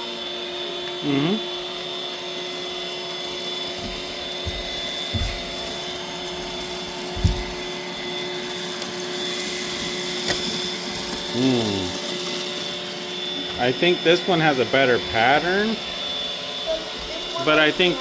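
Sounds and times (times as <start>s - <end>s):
robot vacuum whining: 0.0s - 18.0s.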